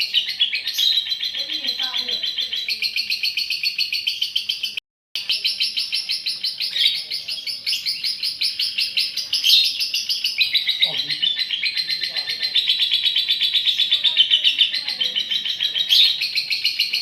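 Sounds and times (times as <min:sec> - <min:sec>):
lovebird chattering trill: 0:00.0 - 0:17.0.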